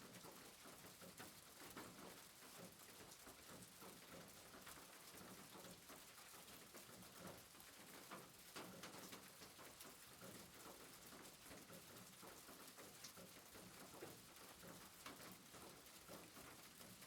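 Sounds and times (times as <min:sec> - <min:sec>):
rain drops pattering: 0:00.0 - 0:17.0
soft rain hiss: 0:00.0 - 0:17.0.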